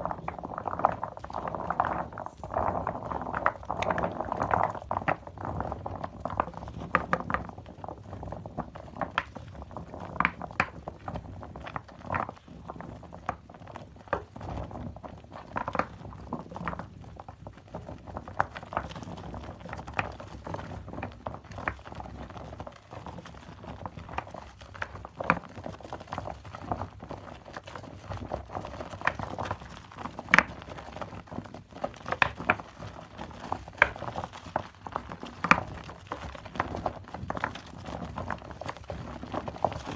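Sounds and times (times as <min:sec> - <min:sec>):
foam popping: 0:00.0 - 0:39.9.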